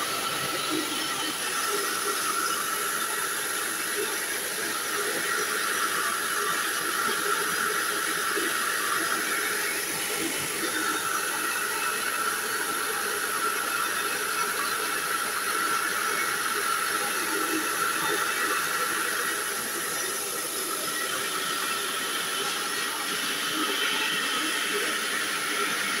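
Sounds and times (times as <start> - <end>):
rice huller motor running: 0.0 - 26.0.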